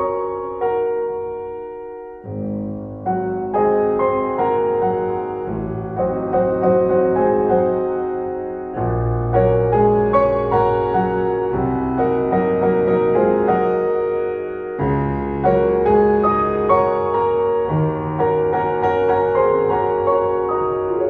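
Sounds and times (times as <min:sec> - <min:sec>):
deep piano bass notes: 0:00.0 - 0:21.0
piano melody: 0:00.0 - 0:21.0.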